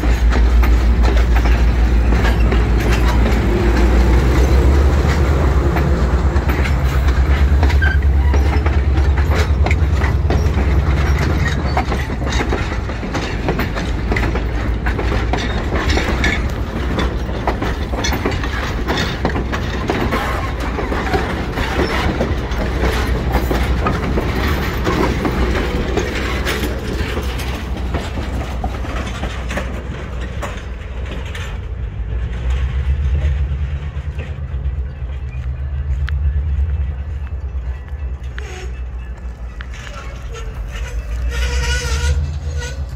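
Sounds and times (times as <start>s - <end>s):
low rumble of passing train: 0.0s - 42.9s
train wheels clattering over rail joints: 0.0s - 42.9s.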